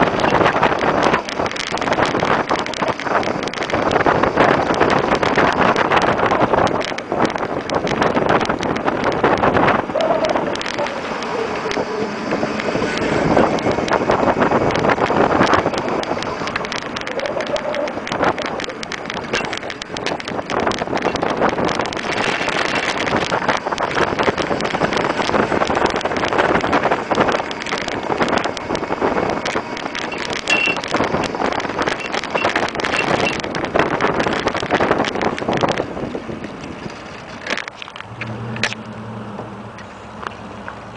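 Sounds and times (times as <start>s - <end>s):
road noise: 0.0s - 40.9s
wind buffeting microphone: 0.0s - 40.9s.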